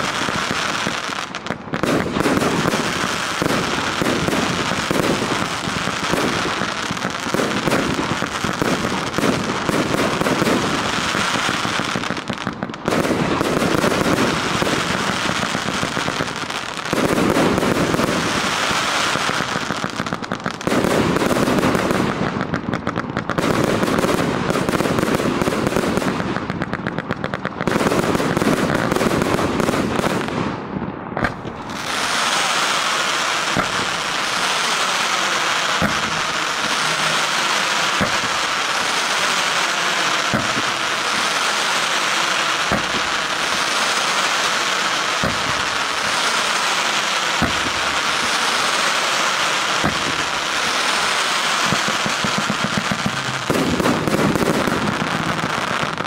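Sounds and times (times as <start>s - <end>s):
fireworks launching and bursting: 0.0s - 56.0s.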